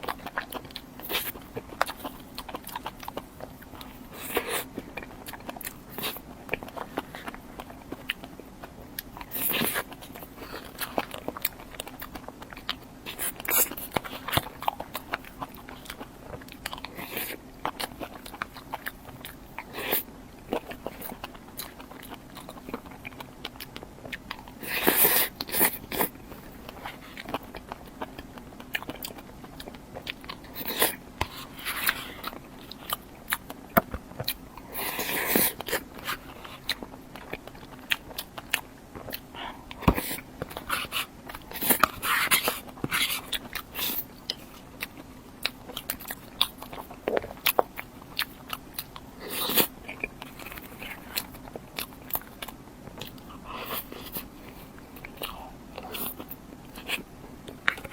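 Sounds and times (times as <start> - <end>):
biting and chewing dessert: 0.0 - 57.9.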